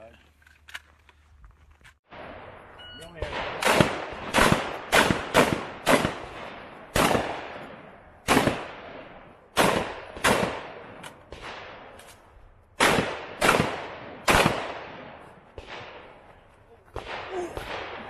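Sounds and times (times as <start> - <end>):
gunshots echoing: 2.1 - 18.0.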